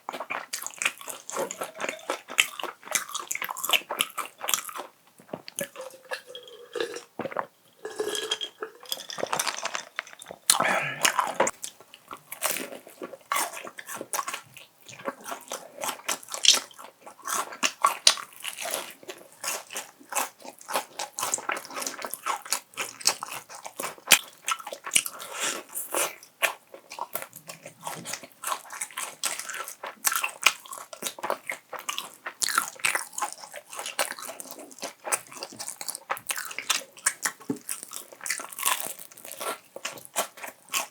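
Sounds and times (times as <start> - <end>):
crunchy chewing: 0.1 - 40.9.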